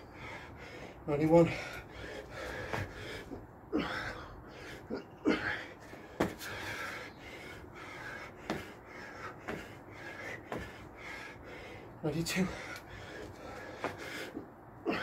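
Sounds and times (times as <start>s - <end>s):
man panting: 0.0s - 15.0s.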